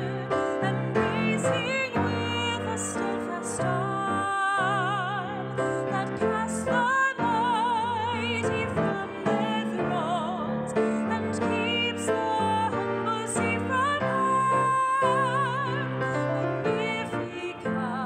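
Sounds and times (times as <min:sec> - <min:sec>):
woman singing a hymn: 0:00.0 - 0:18.0.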